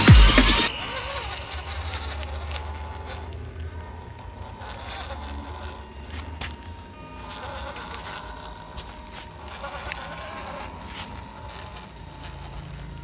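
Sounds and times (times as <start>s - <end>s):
gravel clicking under tyres: 1.9s - 13.0s.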